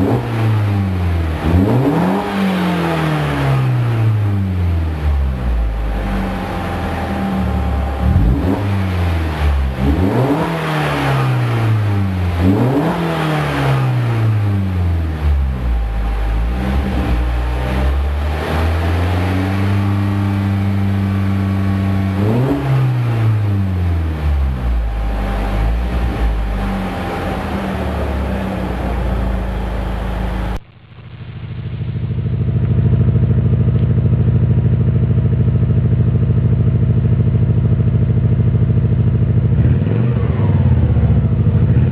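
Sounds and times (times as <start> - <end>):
car engine revving: 0.0 - 41.9
second engine running: 0.0 - 41.9.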